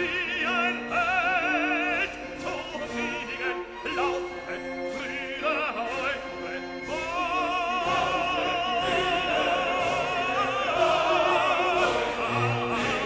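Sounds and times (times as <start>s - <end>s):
classical music: 0.0s - 13.0s
operatic voice singing: 0.0s - 13.0s.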